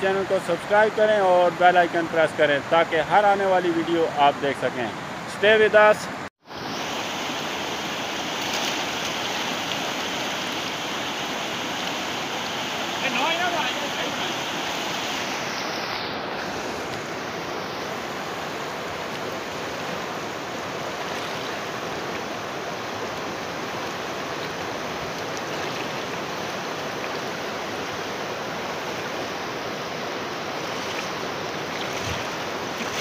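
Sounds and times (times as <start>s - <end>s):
river rapids rushing: 4.9s - 33.0s.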